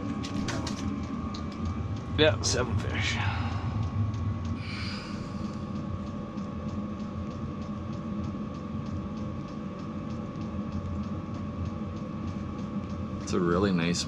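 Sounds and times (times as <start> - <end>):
heater fan hum: 0.0 - 14.0
thin whine: 0.0 - 14.0.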